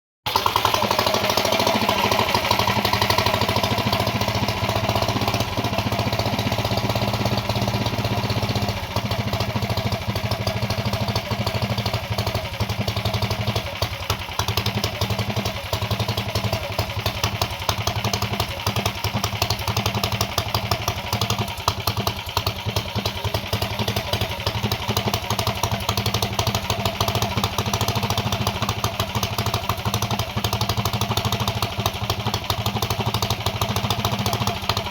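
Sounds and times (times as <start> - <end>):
engine idling: 0.3 - 34.9.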